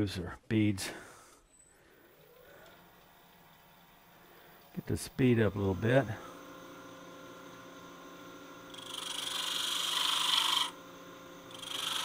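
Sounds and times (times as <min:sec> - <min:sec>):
tool cutting wood hissing: 0:02.0 - 0:12.0
wood lathe running: 0:02.0 - 0:12.0.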